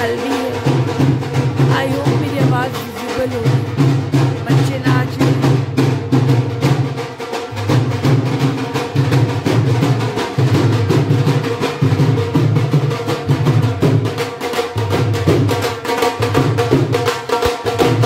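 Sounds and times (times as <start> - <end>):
barrel drum beaten: 0.0 - 18.0.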